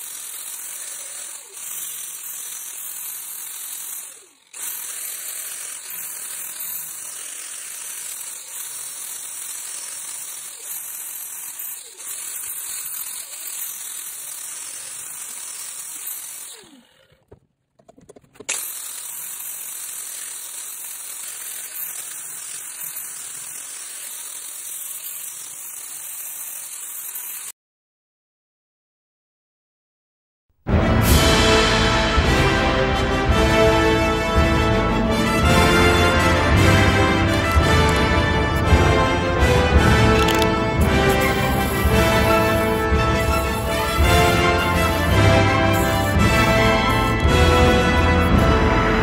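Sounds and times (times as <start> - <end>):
angle grinder grinding steel: 0.0 - 27.5, 33.9 - 49.0.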